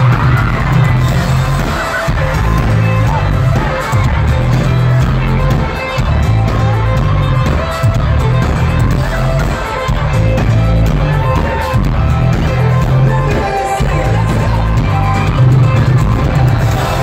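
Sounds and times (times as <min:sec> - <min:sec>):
loud live band music: 0:00.0 - 0:17.0.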